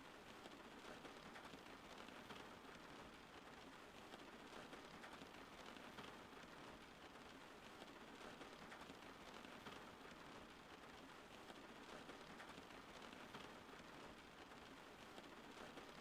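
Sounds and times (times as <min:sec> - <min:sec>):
patter of raindrops: 0:00.0 - 0:16.0
steady rain falling: 0:00.0 - 0:16.0.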